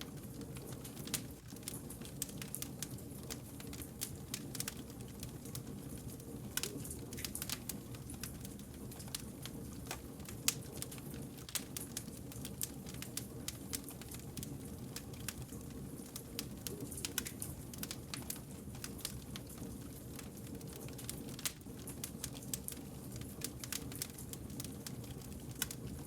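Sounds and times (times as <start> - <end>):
low rumble of flames: 0.0 - 26.0
wood fire crackling and popping: 0.0 - 26.0.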